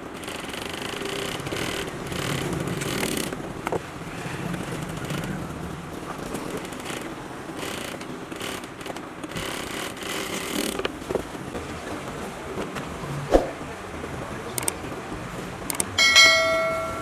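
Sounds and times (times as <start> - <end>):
rustling and scraping: 0.0 - 17.0.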